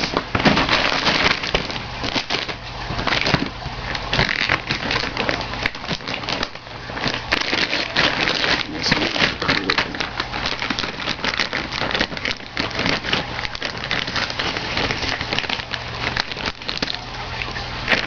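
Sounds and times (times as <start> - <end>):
cardboard and paper rustling: 0.0 - 18.0.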